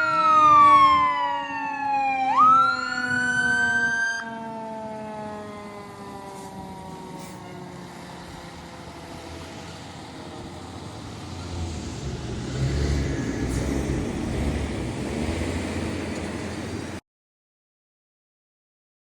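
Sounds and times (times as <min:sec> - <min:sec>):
mechanical siren winding down: 0:00.0 - 0:16.5
fire engine driving past: 0:00.0 - 0:17.0.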